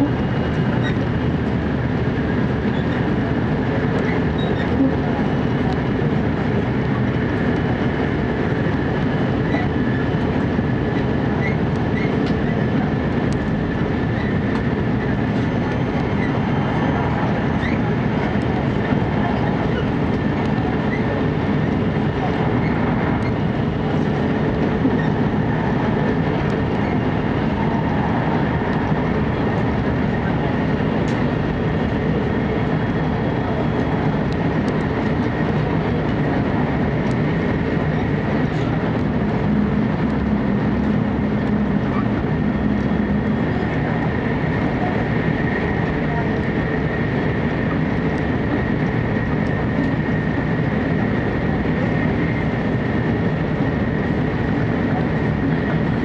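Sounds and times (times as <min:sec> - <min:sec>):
train rumble of wheels and air: 0:00.0 - 0:56.0.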